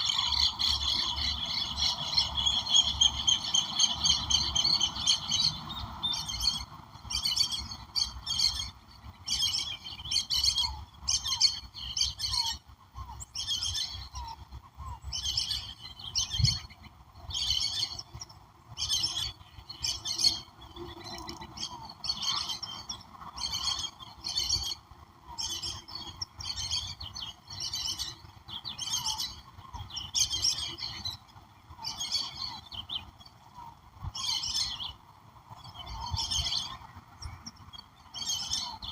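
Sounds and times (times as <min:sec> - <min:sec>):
bird calling: 0:00.0 - 0:38.9.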